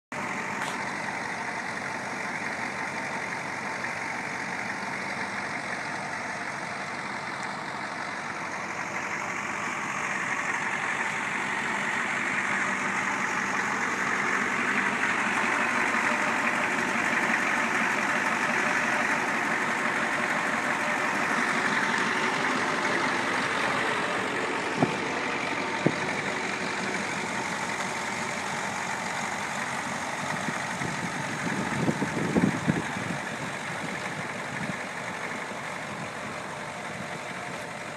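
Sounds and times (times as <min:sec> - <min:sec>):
diesel engine idling: 0:00.1 - 0:37.9.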